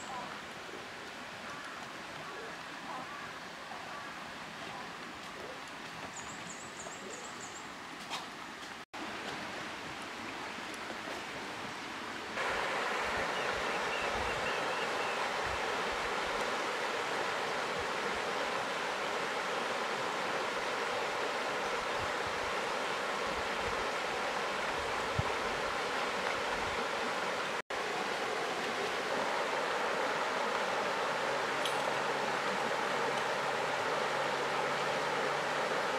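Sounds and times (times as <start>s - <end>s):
river water flowing: 0.0s - 35.9s.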